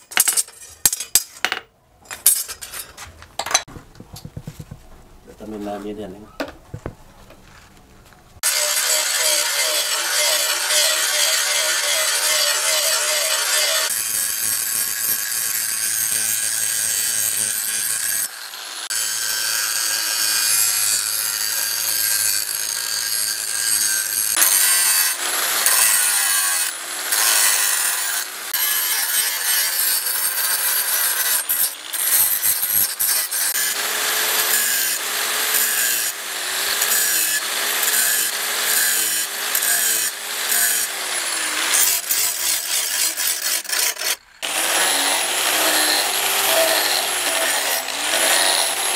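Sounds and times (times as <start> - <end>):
angle grinder grinding steel: 8.4 - 48.9.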